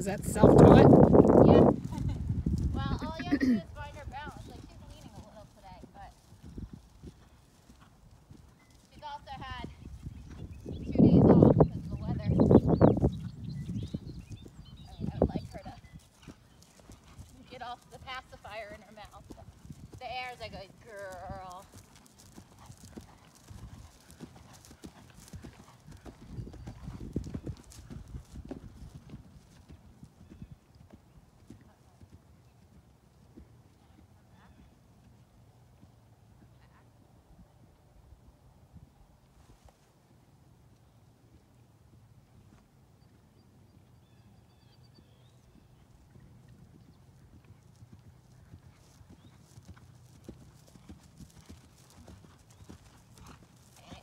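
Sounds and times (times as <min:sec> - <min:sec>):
horse hoofbeats trotting on grass: 0:00.0 - 0:37.8, 0:40.7 - 0:54.0.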